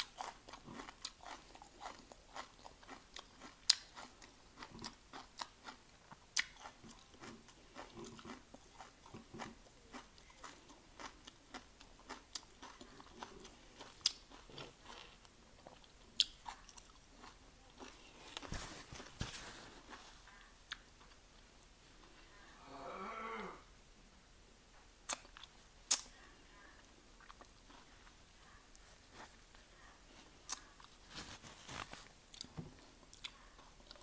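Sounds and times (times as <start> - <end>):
chewing crunchy vegetables: 0.0 - 22.2, 26.8 - 34.0.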